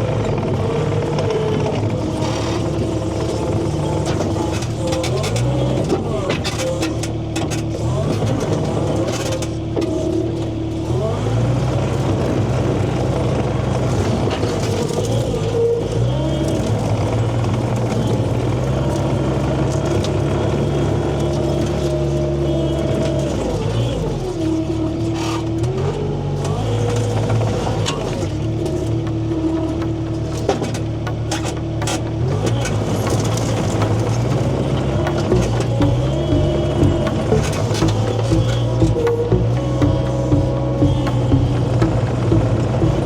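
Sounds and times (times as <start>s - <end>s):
engine revving: 0.0s - 43.0s.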